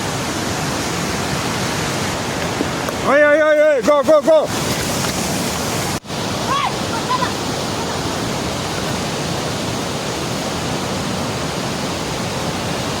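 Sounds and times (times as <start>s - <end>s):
fast-flowing water rushing: 0.0s - 13.0s.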